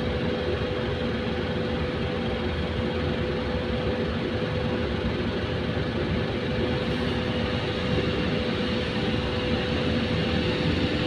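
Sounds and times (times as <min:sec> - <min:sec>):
mid-pitched hum: 0:00.0 - 0:11.0
train low rumble: 0:00.0 - 0:11.0.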